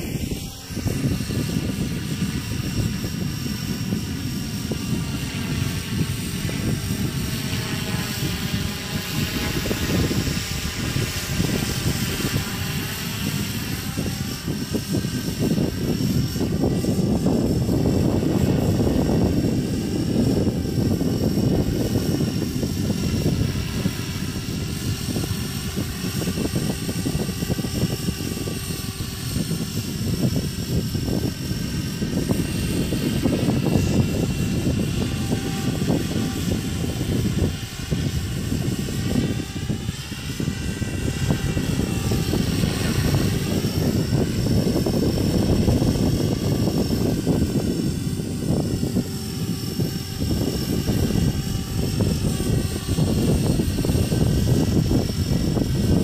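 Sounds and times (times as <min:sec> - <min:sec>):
model helicopter rotor and motor: 0:00.0 - 0:56.0.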